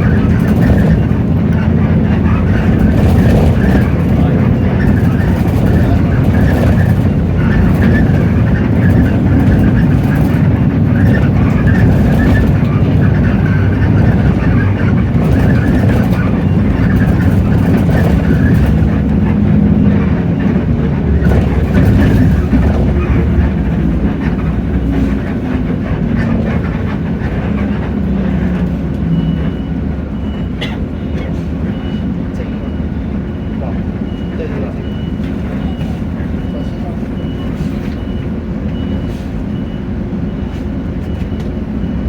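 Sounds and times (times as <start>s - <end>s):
diesel bus engine: 0.0s - 42.0s.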